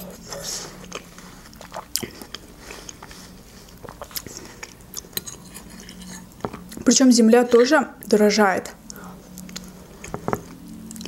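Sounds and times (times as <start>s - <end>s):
person chewing food: 0.0s - 6.9s, 8.8s - 11.0s.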